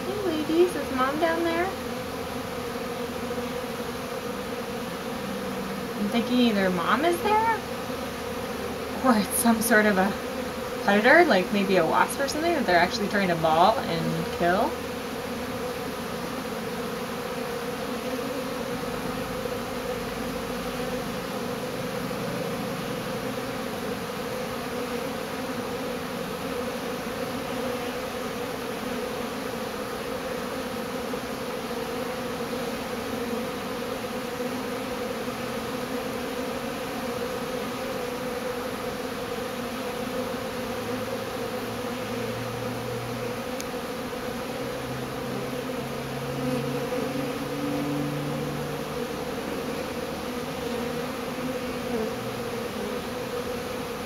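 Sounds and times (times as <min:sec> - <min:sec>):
honeybee swarm buzzing: 0:00.0 - 0:54.0.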